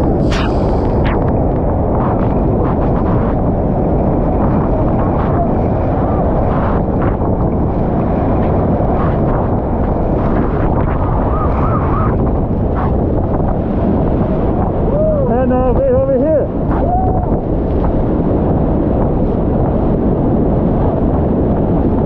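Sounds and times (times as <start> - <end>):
wind hitting microphone: 0.0 - 22.0.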